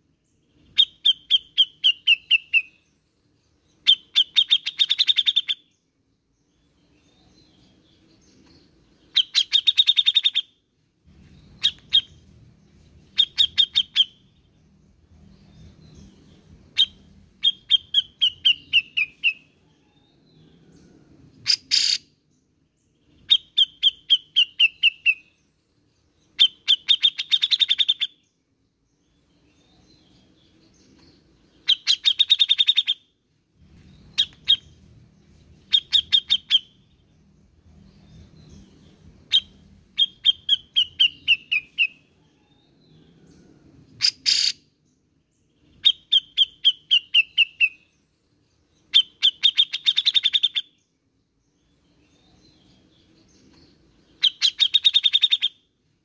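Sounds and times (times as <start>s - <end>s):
bird chattering song: 0.3s - 10.6s, 11.2s - 20.8s, 21.4s - 55.7s.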